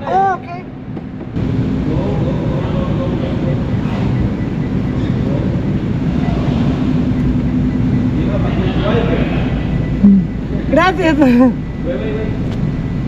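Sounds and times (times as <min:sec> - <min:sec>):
engine rumble: 0:00.0 - 0:13.0
low hum: 0:00.6 - 0:13.0.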